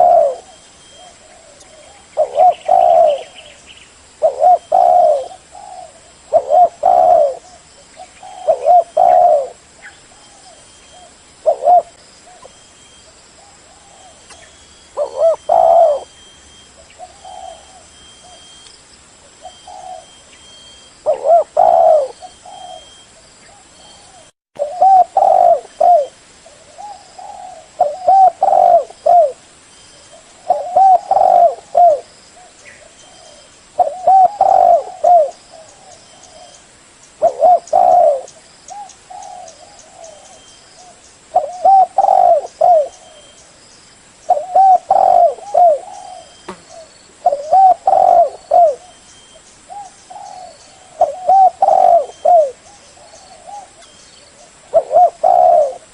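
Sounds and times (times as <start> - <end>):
dove cooing: 0.0 - 3.6, 4.2 - 18.6, 19.4 - 29.4, 30.1 - 36.6, 37.2 - 43.4, 44.3 - 55.9.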